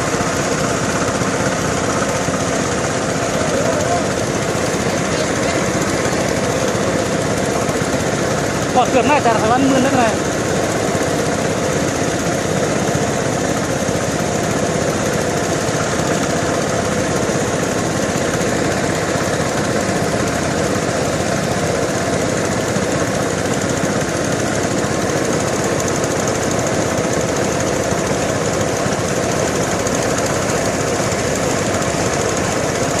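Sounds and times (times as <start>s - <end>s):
engine running with rapid rattle: 0.0s - 33.0s.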